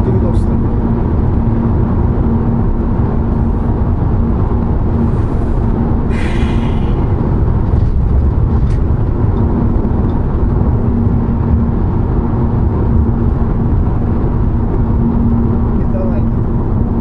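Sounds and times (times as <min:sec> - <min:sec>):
car road and engine rumble: 0:00.0 - 0:17.0
hum: 0:00.0 - 0:17.0.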